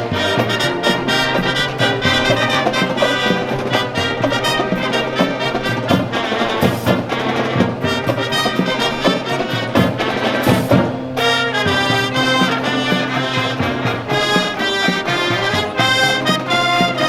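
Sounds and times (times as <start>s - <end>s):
drum hits: 0.0s - 17.0s
marching band brass: 0.0s - 17.0s.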